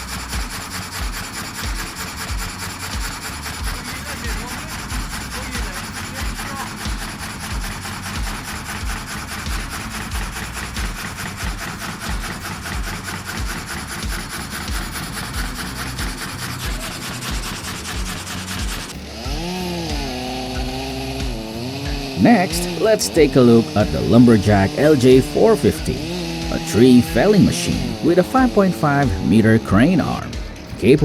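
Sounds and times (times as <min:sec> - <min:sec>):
saw cutting through wood: 0:00.0 - 0:31.0.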